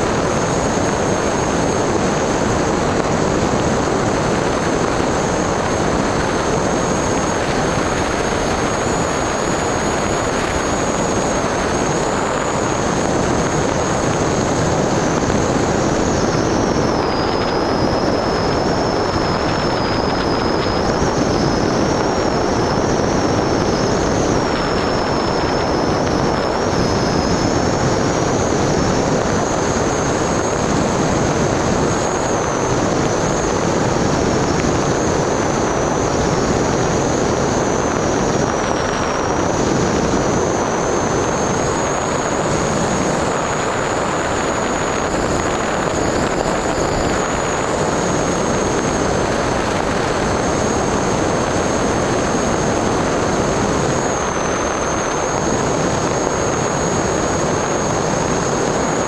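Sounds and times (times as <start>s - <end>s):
propeller motor whine: 0.0s - 59.0s
wind rushing across microphone: 0.0s - 59.0s.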